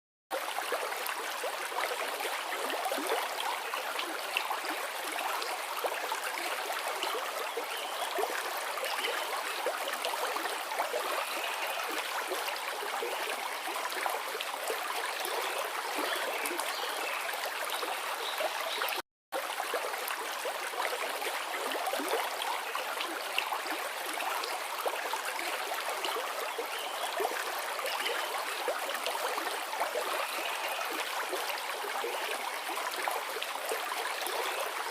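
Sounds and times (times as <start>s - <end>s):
river water rushing and babbling: 0.3s - 34.9s.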